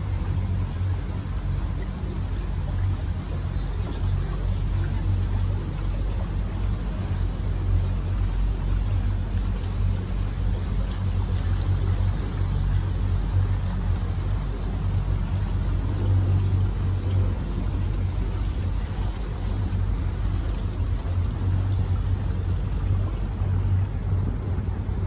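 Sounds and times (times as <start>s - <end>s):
boat motor humming: 0.0s - 25.0s
water washing along hull: 0.0s - 25.0s.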